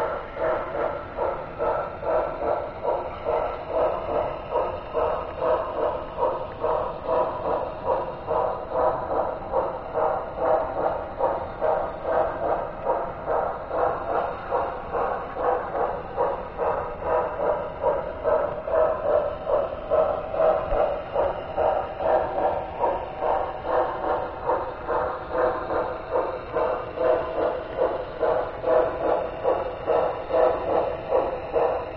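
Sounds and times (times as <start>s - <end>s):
model train clattering on track: 0.0s - 31.9s.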